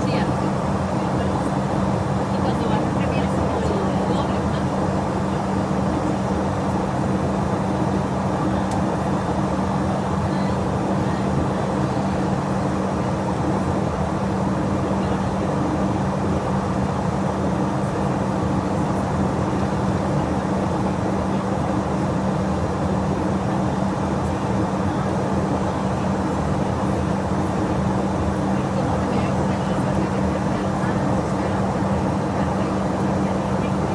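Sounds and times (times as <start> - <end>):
jet cabin engine drone: 0.0 - 33.9.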